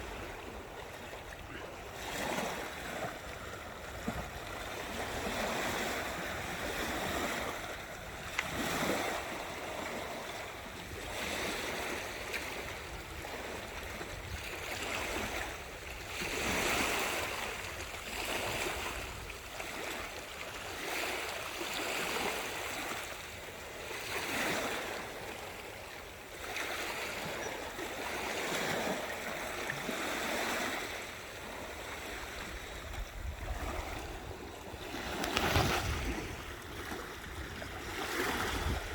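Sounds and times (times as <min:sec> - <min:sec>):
sea waves washing on shore: 0:00.0 - 0:38.9.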